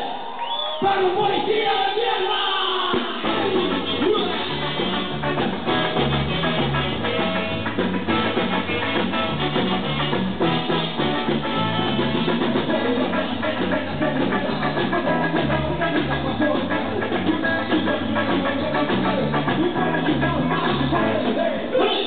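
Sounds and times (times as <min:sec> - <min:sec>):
live rock band playing: 0:02.8 - 0:22.0
stepping bass line: 0:03.2 - 0:21.4.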